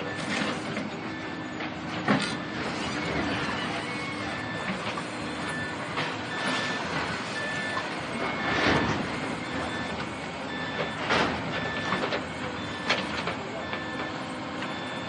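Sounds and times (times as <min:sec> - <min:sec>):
demolition machinery running: 0:00.0 - 0:15.0
reversing alarm beeping: 0:00.0 - 0:15.0.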